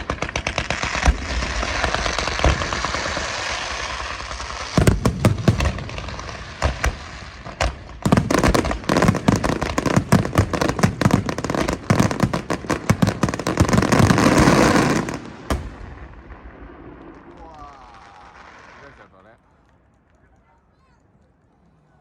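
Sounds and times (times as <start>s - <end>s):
fireworks bursts and crackling: 0.0s - 20.6s.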